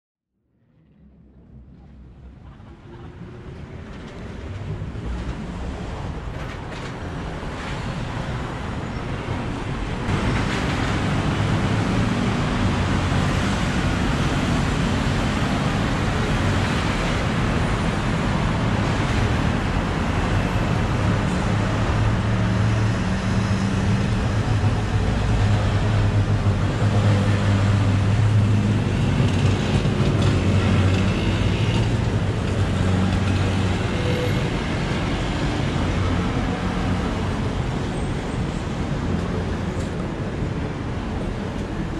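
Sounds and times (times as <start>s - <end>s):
low hum of engines: 0.4s - 41.9s
passing vehicles: 1.0s - 41.9s.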